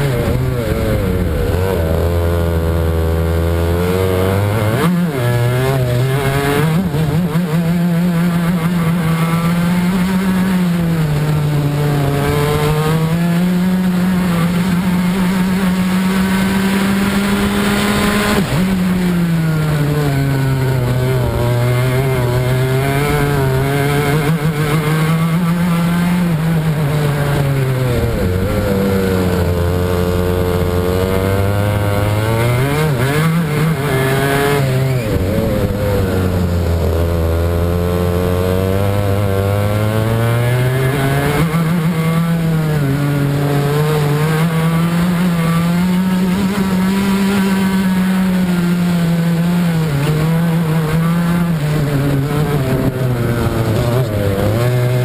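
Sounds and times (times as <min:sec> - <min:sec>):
racing kart engine revving: 0:00.0 - 0:55.0.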